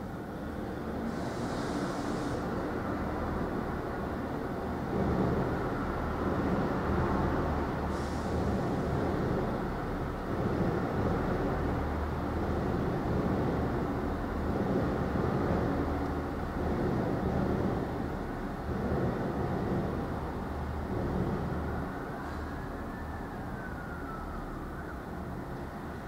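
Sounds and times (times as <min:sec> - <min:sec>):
train engine hum: 0:00.0 - 0:26.0.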